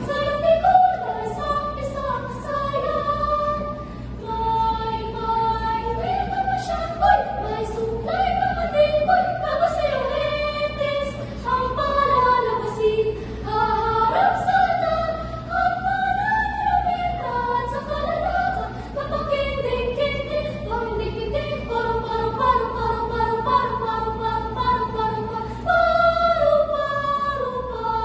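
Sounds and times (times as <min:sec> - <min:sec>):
girls singing in harmony: 0:00.0 - 0:28.0.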